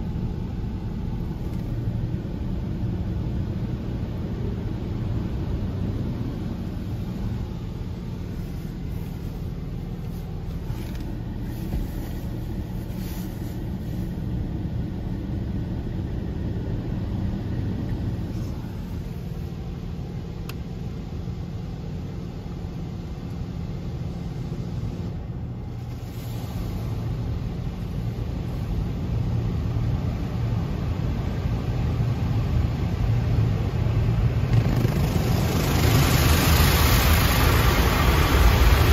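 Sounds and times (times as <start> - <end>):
muffled car wash rumble: 0.0 - 38.9.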